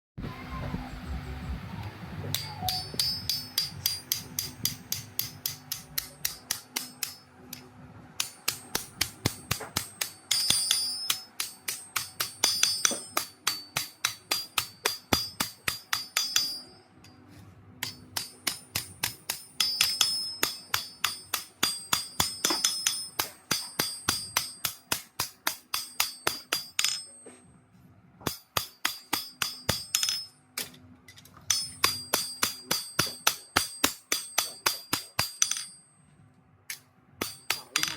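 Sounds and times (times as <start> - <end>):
hammer striking steel on anvil: 2.3 - 17.2, 17.8 - 27.5, 28.2 - 36.1, 36.7 - 37.9.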